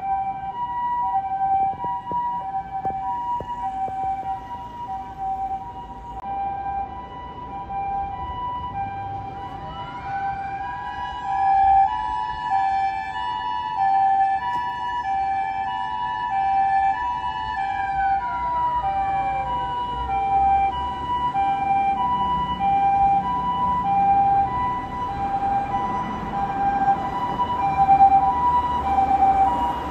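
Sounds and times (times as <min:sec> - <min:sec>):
second siren gliding: 0:00.0 - 0:29.9
two-tone ambulance siren: 0:00.0 - 0:29.9.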